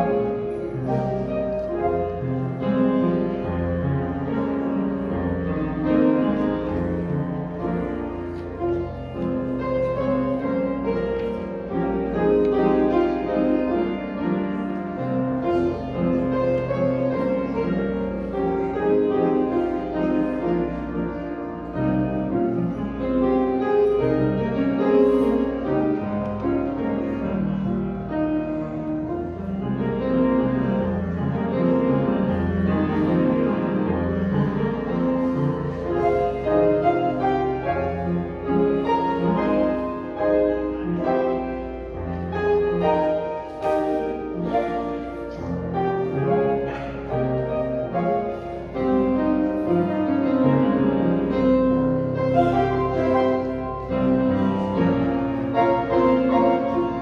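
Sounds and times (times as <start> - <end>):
upright piano playing: 0.0 - 57.0.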